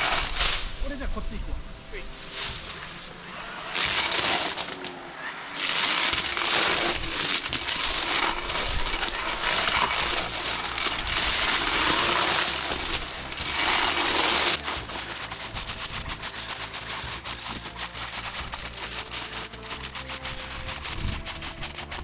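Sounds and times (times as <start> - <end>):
battery cutting tool cutting brush: 2.3 - 22.0.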